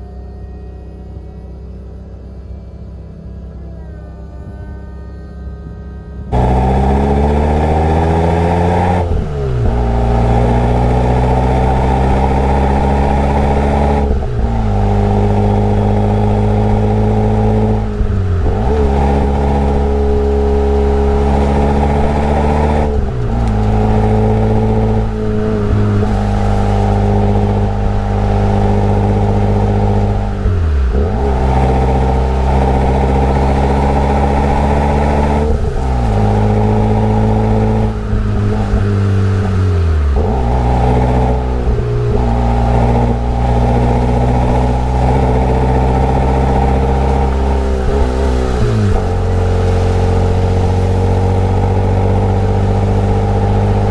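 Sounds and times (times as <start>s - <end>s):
car engine and exhaust accelerating: 5.4s - 53.9s.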